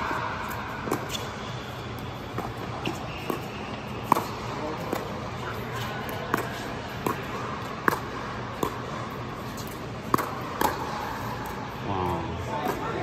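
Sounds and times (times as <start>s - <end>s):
steady hall hum: 0.0s - 13.0s.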